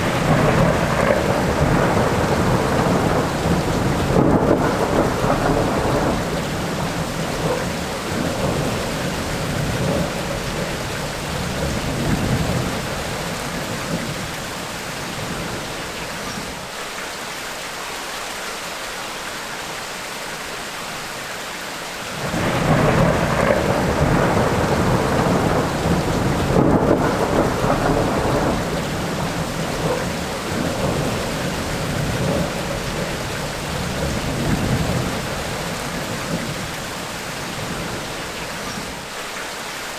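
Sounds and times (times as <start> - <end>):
rolling thunder: 0.0 - 16.5, 22.2 - 39.0
heavy rain: 0.0 - 39.9.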